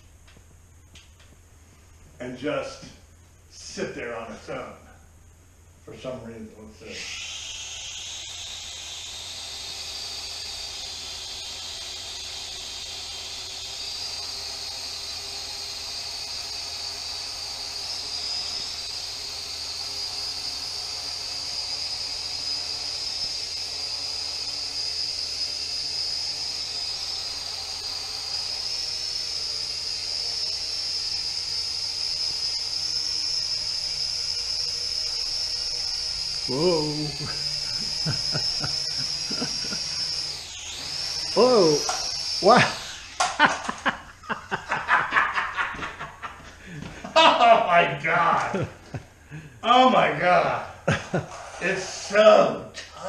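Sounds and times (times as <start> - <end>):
drone propellers whining: 6.7 - 53.0.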